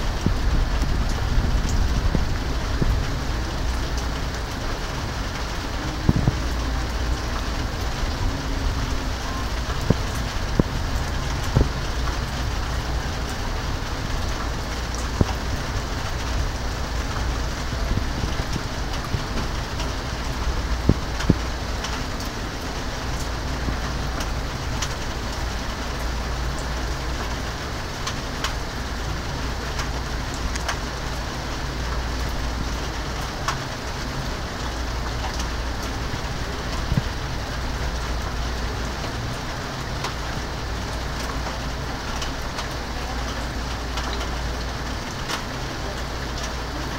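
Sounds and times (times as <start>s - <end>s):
rain falling steadily: 0.0s - 46.9s
raindrops tapping nearby: 0.0s - 46.9s.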